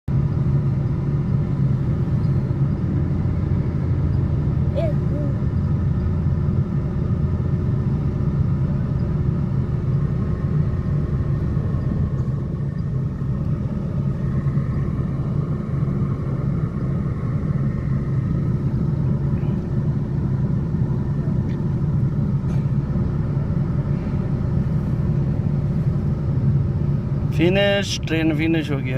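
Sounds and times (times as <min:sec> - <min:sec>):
train passing rumble: 0:00.1 - 0:28.9.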